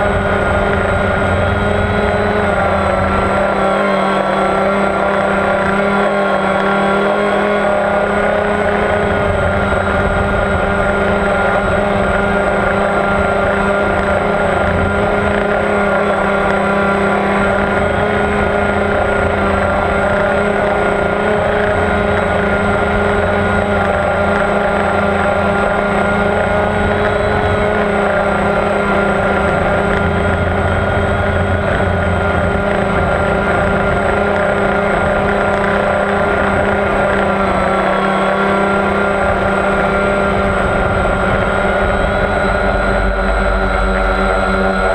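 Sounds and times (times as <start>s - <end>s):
drone motors and propellers: 0.0s - 44.9s
wind rumble on microphone: 0.0s - 44.9s.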